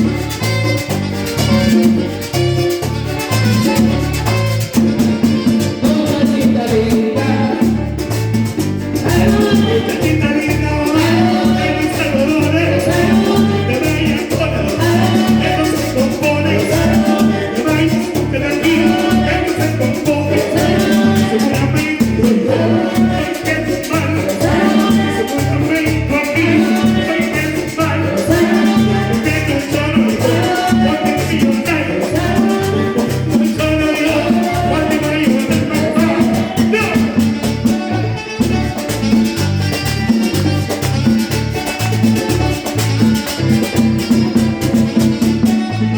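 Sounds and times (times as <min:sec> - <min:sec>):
latin dance music: 0:00.0 - 0:45.9.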